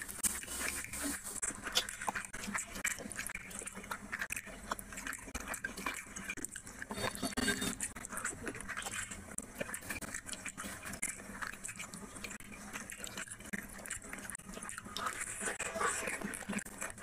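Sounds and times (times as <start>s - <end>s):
close chewing with mouth sounds: 0.0s - 17.0s
fingers squelching through food: 0.0s - 17.0s.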